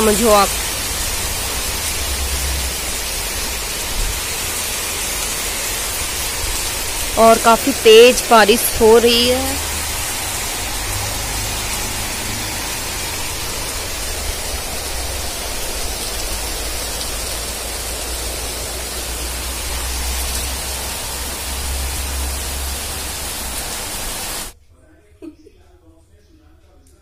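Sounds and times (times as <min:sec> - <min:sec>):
heavy rain pouring: 0:00.0 - 0:24.6.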